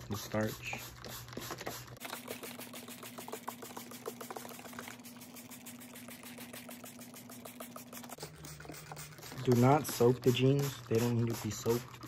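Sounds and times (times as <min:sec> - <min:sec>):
spray bottle squirting: 0:00.1 - 0:12.0.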